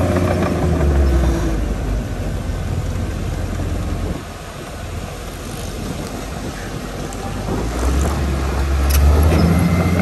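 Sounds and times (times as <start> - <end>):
heavy diesel engine running: 0.0 - 10.0.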